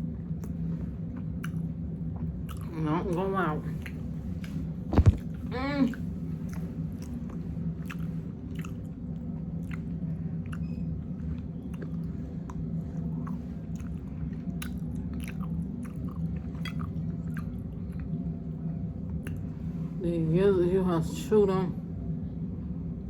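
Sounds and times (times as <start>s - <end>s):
person chewing with wet smacking: 0.0s - 19.6s
low hum: 0.0s - 23.0s.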